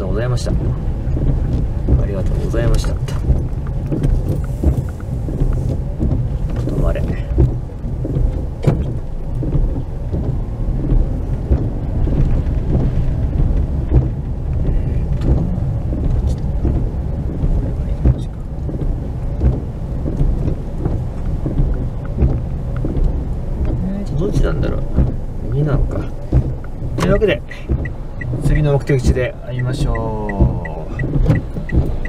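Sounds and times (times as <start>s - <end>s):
car engine and tyres rumbling: 0.0s - 32.0s
raindrops tapping on car roof: 0.0s - 32.0s.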